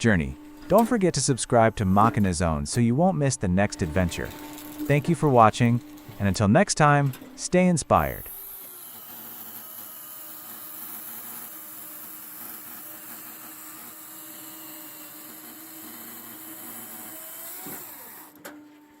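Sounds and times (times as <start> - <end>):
machine engine humming: 0.0 - 18.5.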